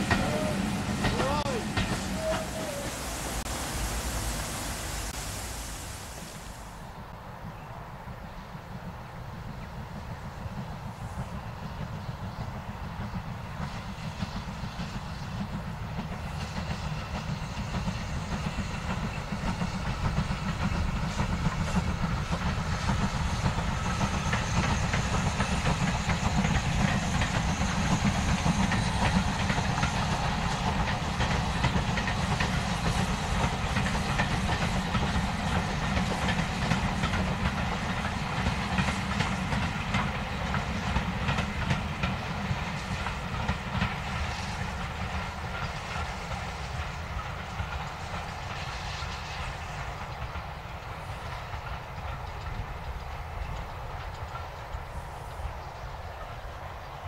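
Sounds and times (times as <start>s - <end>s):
wheels clacking over rail joints: 0.0s - 2.9s, 12.0s - 57.0s
steam locomotive rumble and hiss: 0.0s - 57.0s.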